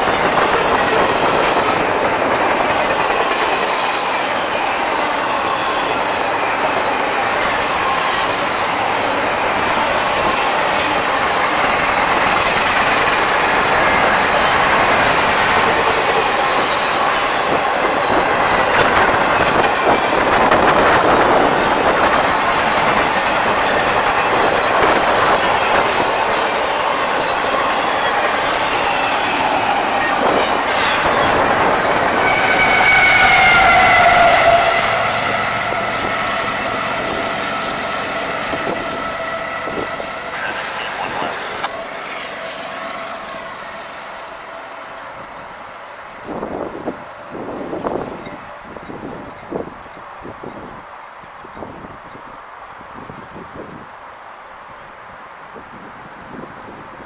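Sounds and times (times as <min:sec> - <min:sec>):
freight train wheel rumble: 0:00.0 - 0:57.0.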